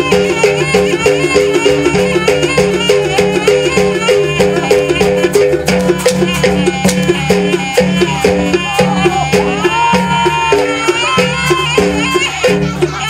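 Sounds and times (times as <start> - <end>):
percussion ensemble: 0.0 - 13.0
wavering high melody: 0.0 - 13.0.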